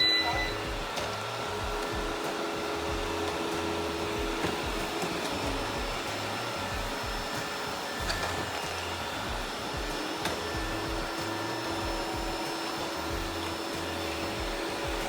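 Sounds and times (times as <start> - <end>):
background music with low beat: 0.0 - 15.0
robot vacuum cleaner whirring: 0.0 - 15.0.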